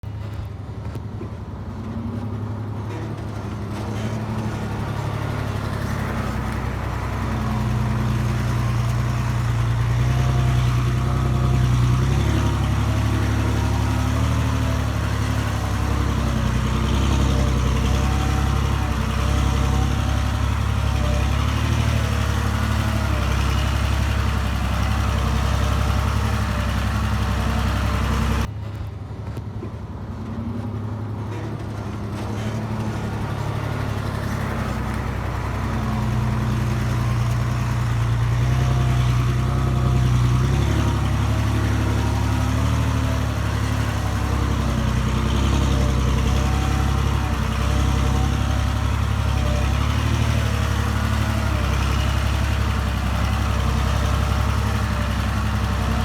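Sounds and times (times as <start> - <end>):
earthmoving machine engine running: 2.1 - 28.9, 30.5 - 56.0.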